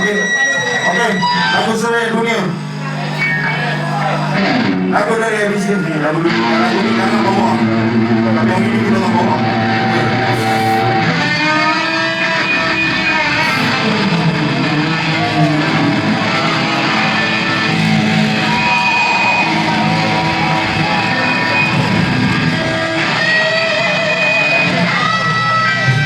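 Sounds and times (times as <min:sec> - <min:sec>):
electric guitar: 0:00.0 - 0:26.0
live rock band playing: 0:02.6 - 0:26.0.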